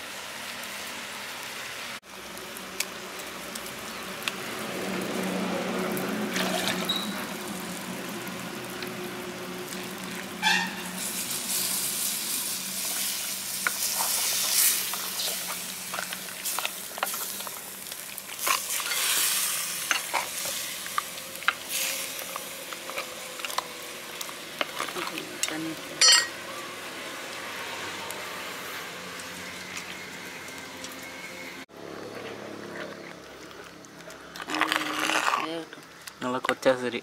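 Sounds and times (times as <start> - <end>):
curry sizzling in a pot: 0.0 - 30.7.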